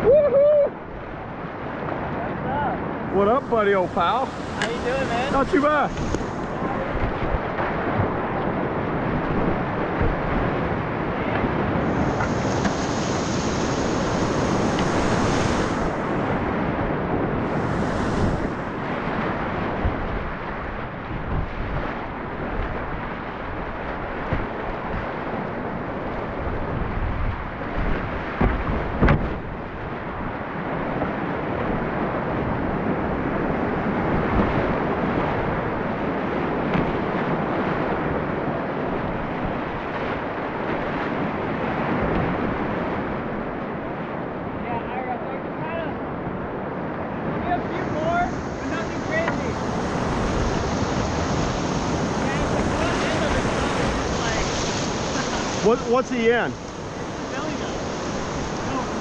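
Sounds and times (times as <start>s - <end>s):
whitewater rapids rushing: 0.0s - 59.0s
wind noise on microphone: 0.0s - 59.0s.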